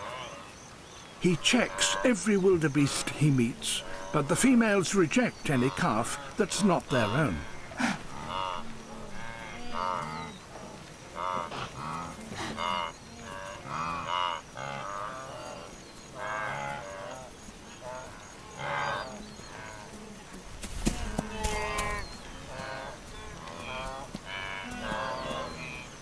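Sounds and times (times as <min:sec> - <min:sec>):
wildebeest calling: 0:01.2 - 0:20.1, 0:20.9 - 0:26.0.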